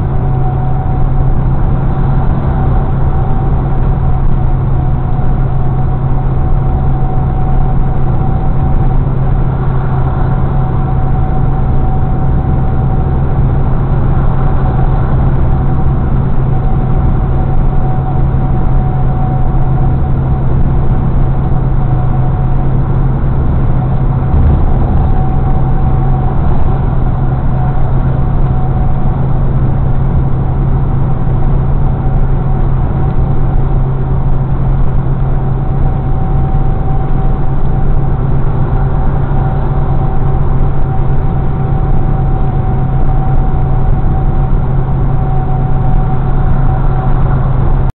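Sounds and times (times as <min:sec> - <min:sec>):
diesel engine drone: 0:00.0 - 0:47.9
faint steady whine: 0:00.0 - 0:47.9
road and tyre noise: 0:00.0 - 0:47.9.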